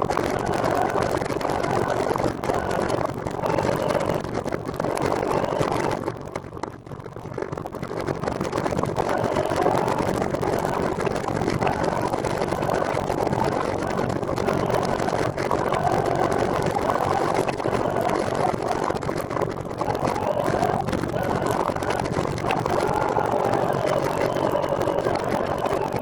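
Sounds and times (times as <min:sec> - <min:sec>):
wind on microphone: 0:00.0 - 0:26.0.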